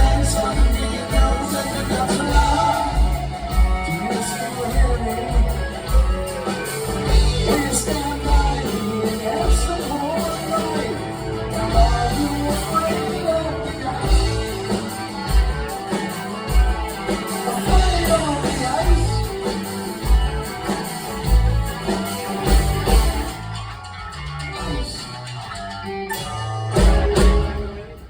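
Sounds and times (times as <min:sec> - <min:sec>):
bass guitar: 0:00.0 - 0:28.0
electric guitar: 0:00.0 - 0:28.0
sung or lead guitar melody: 0:00.0 - 0:28.0.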